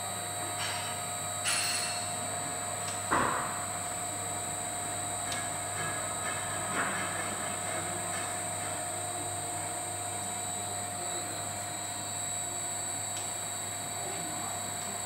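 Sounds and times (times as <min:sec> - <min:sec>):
electric motor hum with whine: 0:00.0 - 0:15.0.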